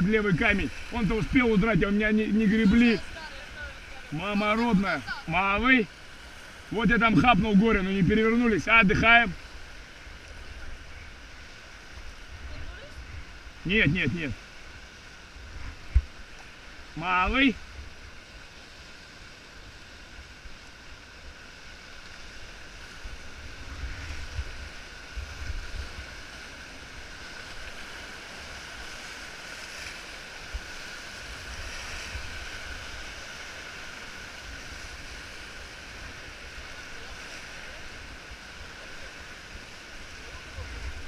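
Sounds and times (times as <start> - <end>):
rapids rushing and splashing: 0.0 - 41.0.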